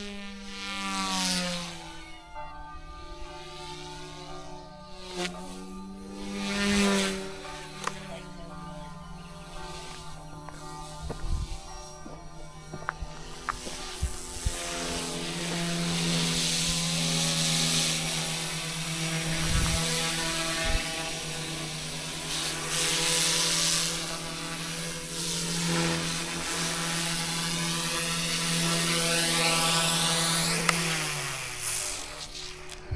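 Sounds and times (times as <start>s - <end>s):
helicopter motor and rotor whine: 0.0s - 32.9s
rushing rotor noise: 0.0s - 32.9s.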